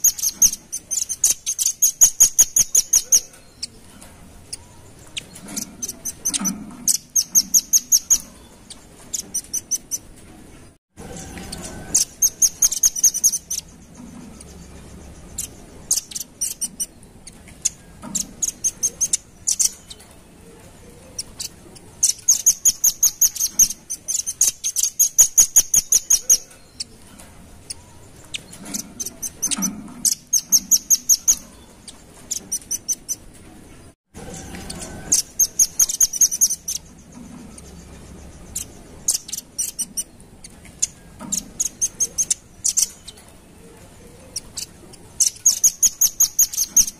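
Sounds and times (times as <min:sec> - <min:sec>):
bird rattling calls: 0:00.0 - 0:10.2, 0:11.1 - 0:20.3, 0:21.0 - 0:33.4, 0:34.2 - 0:43.5, 0:44.2 - 0:46.9.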